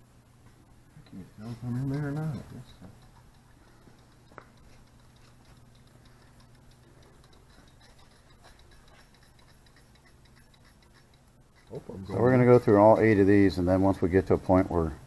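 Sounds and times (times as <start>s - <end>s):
low steady hum: 0.0s - 15.0s
ratchet wrench ticking: 1.0s - 13.2s.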